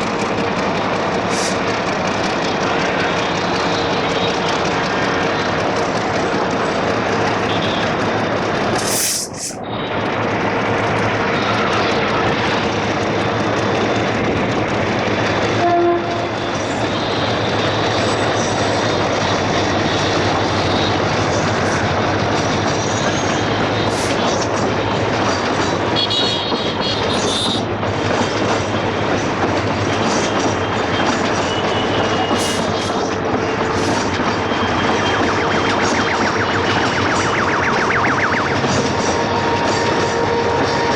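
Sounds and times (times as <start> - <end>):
train wheels rumbling and clattering: 0.0 - 40.9.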